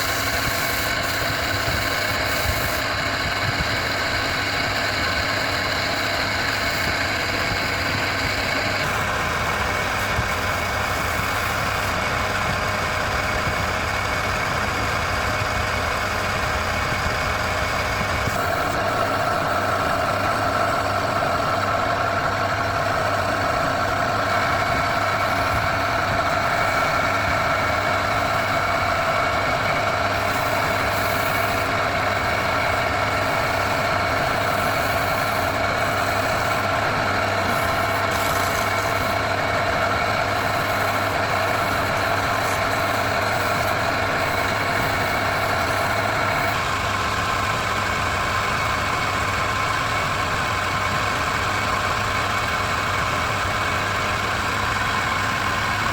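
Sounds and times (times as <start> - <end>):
motor running with whine: 0.0 - 55.9.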